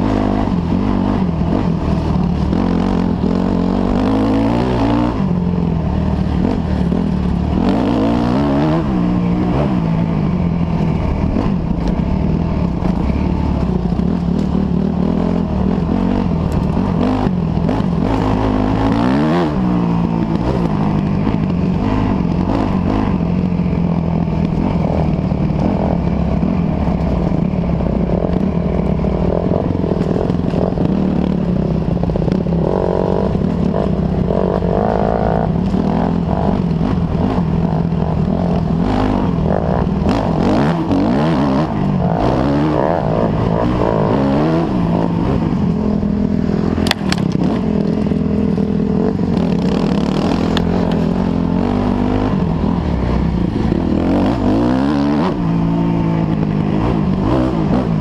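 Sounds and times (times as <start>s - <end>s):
bike rattling on rough trail: 0.0s - 58.0s
dirt bike engine revving: 0.0s - 58.0s.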